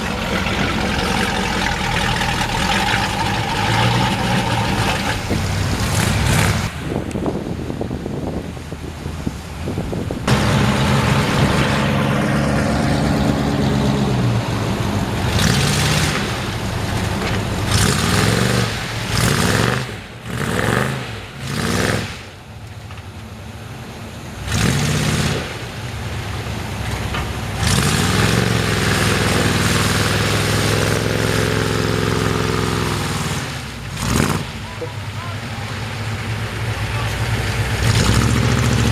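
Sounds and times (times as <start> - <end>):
truck engine revving: 0.0 - 7.2, 9.9 - 22.6, 24.0 - 38.9.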